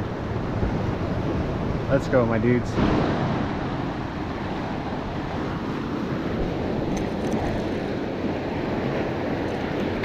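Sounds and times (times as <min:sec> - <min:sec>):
surf washing against rocks: 0:00.0 - 0:10.0
wind rumbling on microphone: 0:00.0 - 0:10.0.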